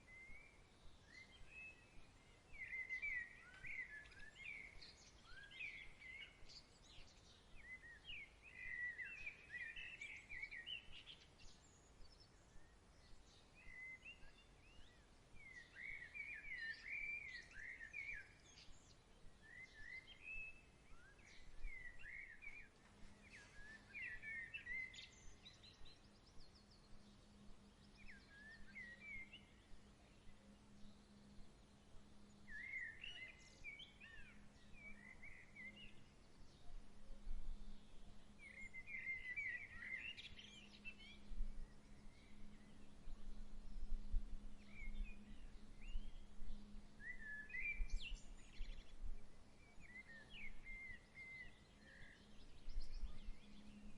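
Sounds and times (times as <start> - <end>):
faint steady low hum: 0.0 - 53.9
songbirds chirping and warbling: 0.0 - 53.9.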